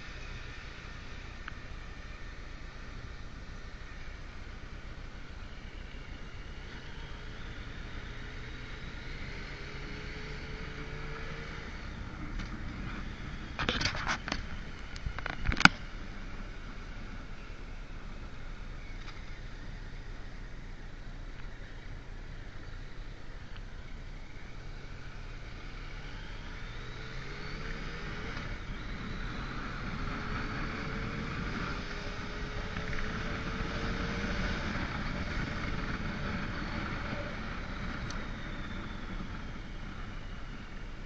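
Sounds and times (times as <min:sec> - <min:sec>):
motorcycle engine: 0:00.0 - 0:41.0
wind and road noise: 0:00.0 - 0:41.0.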